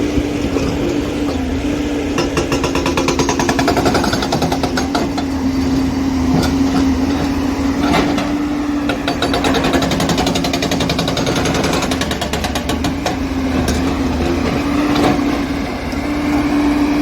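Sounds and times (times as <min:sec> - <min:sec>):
hydraulic rock breaker hammering: 0:00.0 - 0:16.6
diesel engine drone: 0:00.0 - 0:17.0.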